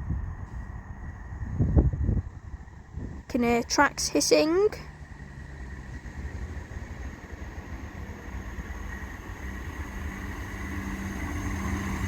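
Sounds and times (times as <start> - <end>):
train engine hum and rumble: 0.0 - 12.0.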